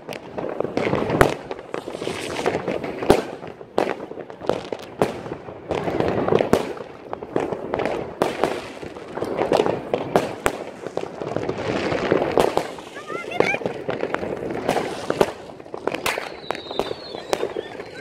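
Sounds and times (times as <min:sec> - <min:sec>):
firecrackers crackling: 0:00.0 - 0:18.0
firework bangs: 0:00.0 - 0:18.0.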